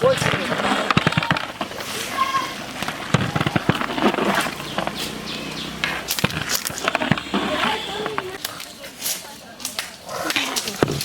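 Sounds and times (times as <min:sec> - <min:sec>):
faint voices: 0:00.0 - 0:11.0.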